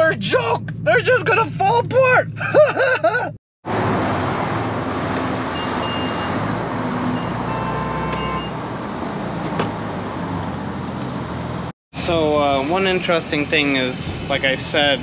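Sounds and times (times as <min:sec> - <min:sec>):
traffic: 0:00.0 - 0:15.0.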